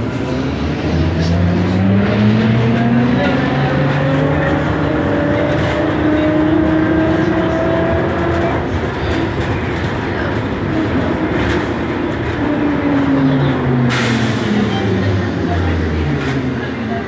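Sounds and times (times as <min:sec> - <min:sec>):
bus running noise: 0:00.0 - 0:17.0.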